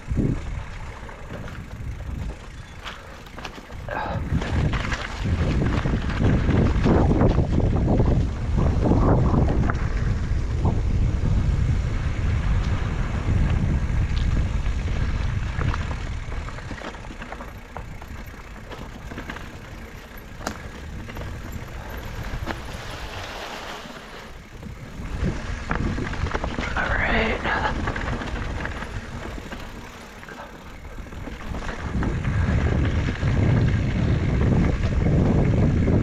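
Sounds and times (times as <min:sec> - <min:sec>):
mountain bike rattling on dirt trail: 0:00.0 - 0:36.0
wind buffeting microphone: 0:00.0 - 0:36.0.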